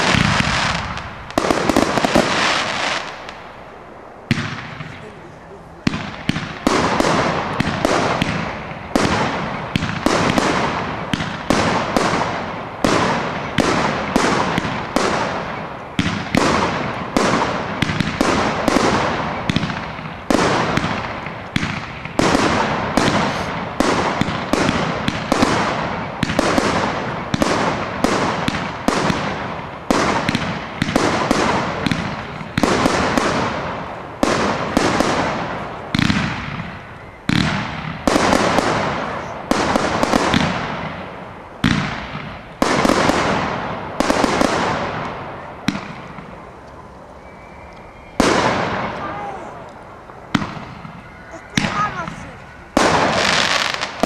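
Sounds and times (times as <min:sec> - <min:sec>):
firework bursts: 0:00.0 - 0:54.0.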